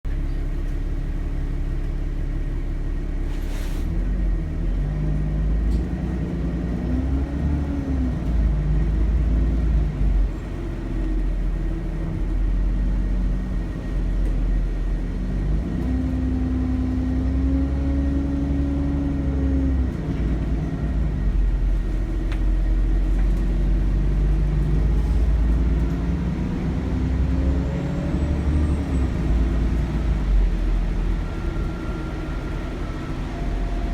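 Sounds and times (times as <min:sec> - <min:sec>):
bus diesel engine pulling: 0:00.1 - 0:33.9.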